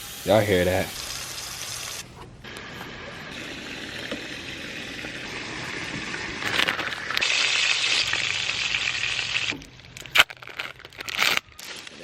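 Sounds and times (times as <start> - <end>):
burger patties sizzling on grill: 0.0 - 10.0.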